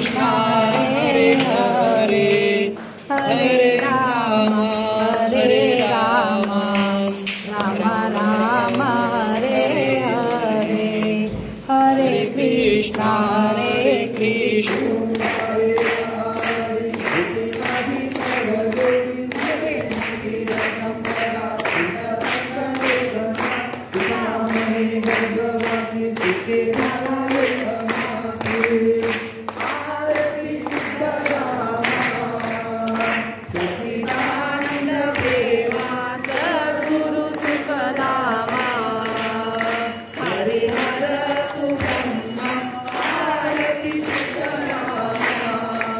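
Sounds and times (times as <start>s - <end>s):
group singing devotional song: 0.0s - 45.9s.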